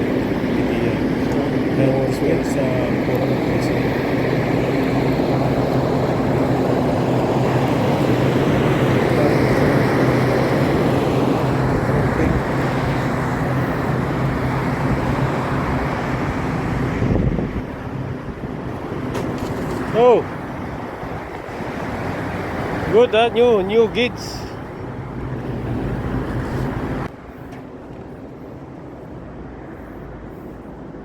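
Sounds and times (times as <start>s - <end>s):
rush of fan air: 0.0s - 31.0s.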